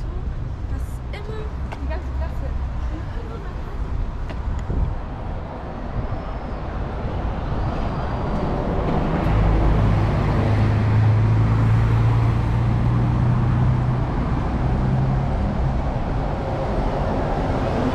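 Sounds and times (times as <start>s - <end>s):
bus engine hum passing by: 0.0s - 17.9s
street traffic noise: 0.0s - 17.9s.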